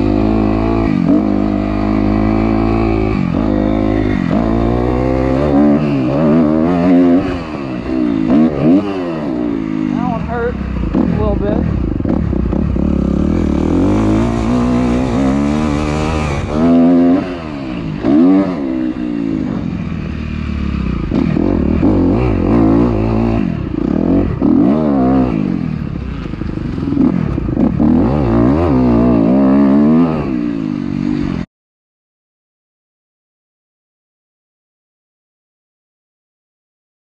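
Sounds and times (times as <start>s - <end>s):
dirt bike engine revving: 0.0s - 31.5s.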